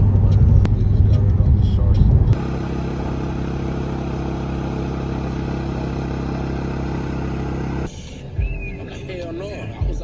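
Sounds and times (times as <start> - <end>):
vehicle engine running steadily: 0.0 - 10.0.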